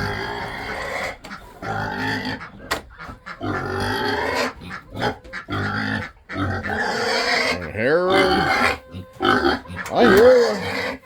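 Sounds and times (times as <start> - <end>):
pigs grunting and squealing: 0.0 - 11.0.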